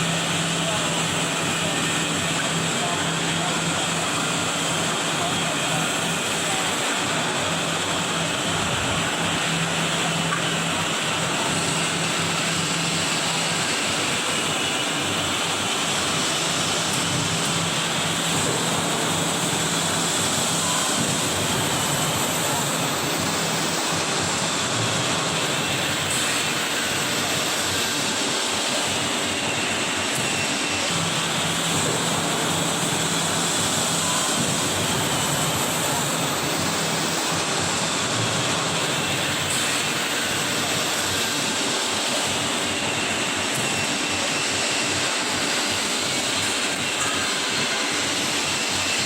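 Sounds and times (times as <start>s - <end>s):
bending machine running: 0.0s - 49.0s.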